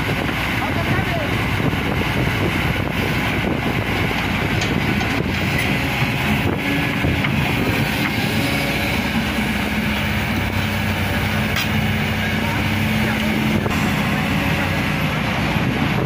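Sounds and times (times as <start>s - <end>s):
excavator diesel engines running: 0.0s - 16.0s.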